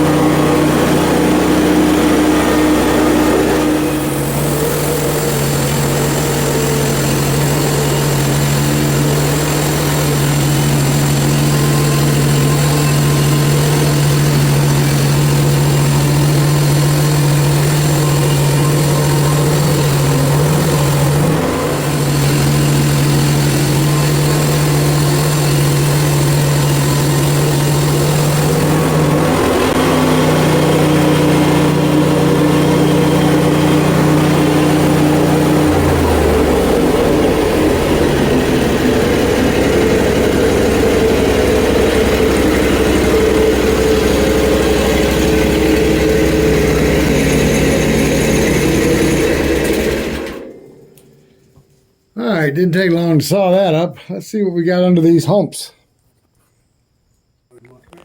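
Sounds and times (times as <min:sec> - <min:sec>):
sawmill gas engine running: 0:00.0 - 0:51.6.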